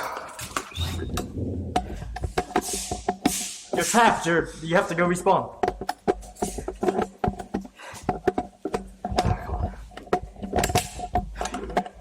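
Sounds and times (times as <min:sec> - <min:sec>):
bb impacts: 0:00.0 - 0:12.0.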